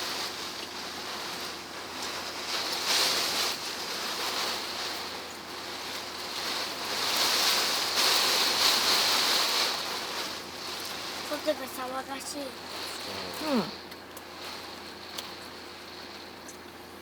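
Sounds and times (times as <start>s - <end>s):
rain and wind on van body: 0.0s - 17.0s.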